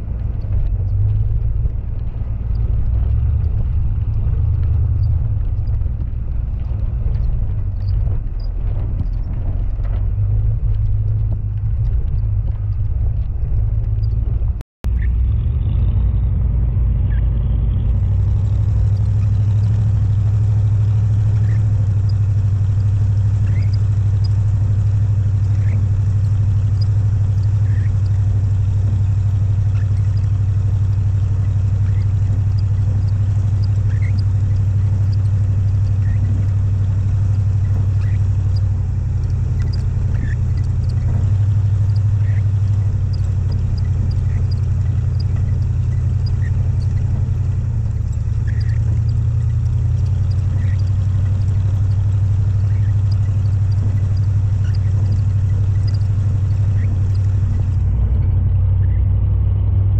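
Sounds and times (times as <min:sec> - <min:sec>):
faint ticks: 0:00.0 - 0:15.1, 0:17.9 - 0:59.0
off-road vehicle engine droning: 0:00.0 - 0:59.9.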